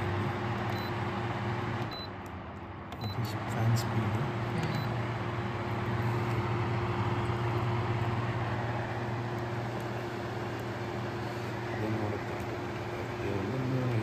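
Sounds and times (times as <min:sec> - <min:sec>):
air purifier fan running: 0:00.0 - 0:14.0.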